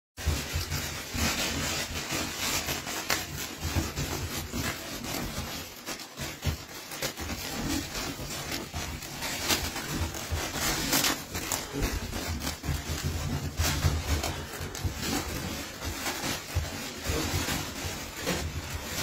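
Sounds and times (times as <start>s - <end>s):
cloth and paws scraping on floor: 0.2s - 19.0s
puppies tugging at a rag: 0.2s - 19.0s.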